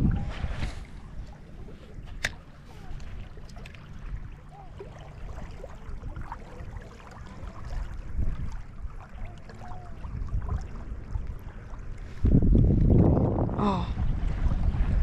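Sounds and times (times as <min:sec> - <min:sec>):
outdoor water ambience: 0:00.0 - 0:15.0
wind rumbling on microphone: 0:00.0 - 0:15.0.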